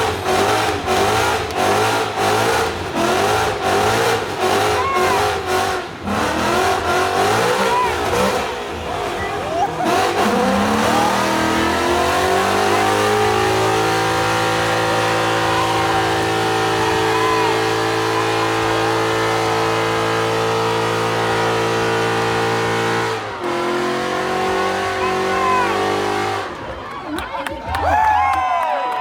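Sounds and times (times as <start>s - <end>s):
car engine revving high: 0.0s - 26.8s.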